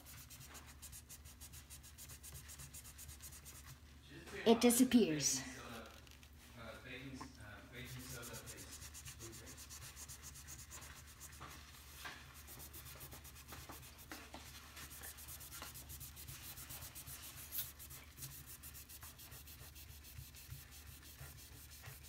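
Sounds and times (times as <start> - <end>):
paper rubbing on wooden table: 0.0 - 3.8, 7.7 - 22.0.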